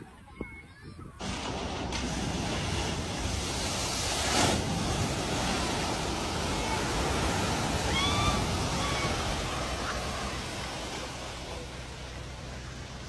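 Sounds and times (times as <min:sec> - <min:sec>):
floodwater churning and splashing: 0:01.2 - 0:13.0
truck driving through water: 0:01.2 - 0:13.0.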